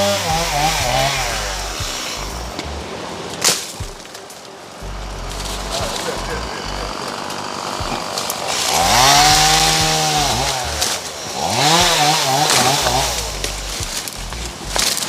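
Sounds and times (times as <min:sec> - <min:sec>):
chainsaw idling and revving: 0:00.0 - 0:03.0, 0:04.8 - 0:15.0.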